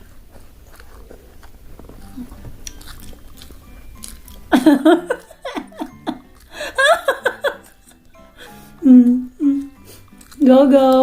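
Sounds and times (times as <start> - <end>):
person chewing: 0.0 - 11.0
pitched music: 2.0 - 11.0.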